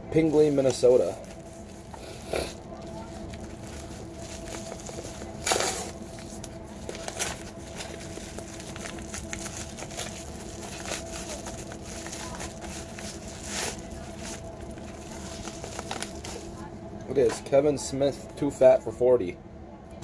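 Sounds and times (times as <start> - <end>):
steady hum: 0.0 - 20.0
paper rustling and handling: 0.2 - 16.6
paper mailer tearing: 0.4 - 16.5.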